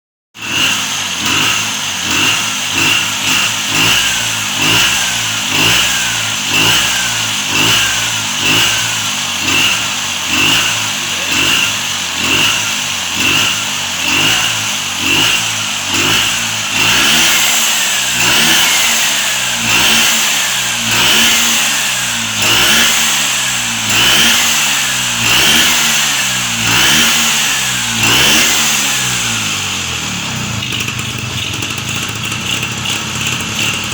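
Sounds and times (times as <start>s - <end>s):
scooter engine revving: 0.3s - 33.9s.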